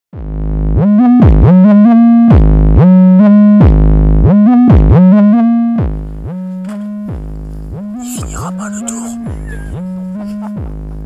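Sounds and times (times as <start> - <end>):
synthesizer electronic music: 0.2 - 11.0.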